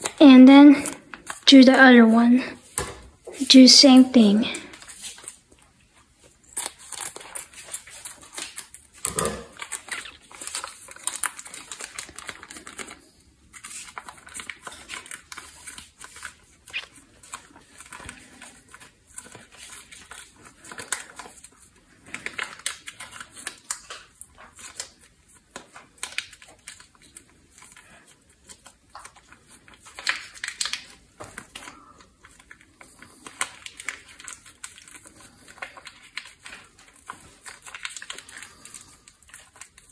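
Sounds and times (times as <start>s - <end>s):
foil pouch crinkling: 4.5s - 39.9s.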